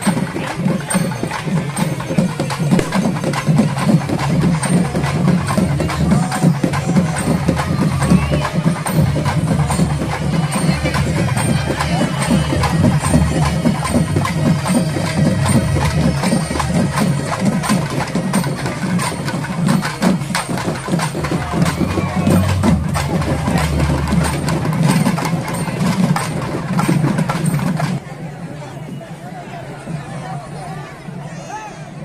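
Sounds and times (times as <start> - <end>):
heavy rapid drumming: 0.0 - 28.0
loud festival music: 0.0 - 28.0.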